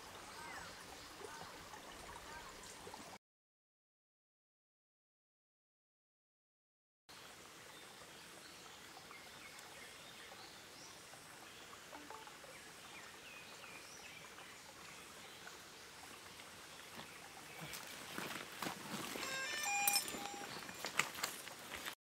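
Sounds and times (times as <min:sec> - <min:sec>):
stream flowing: 0:00.0 - 0:03.2, 0:07.1 - 0:22.0.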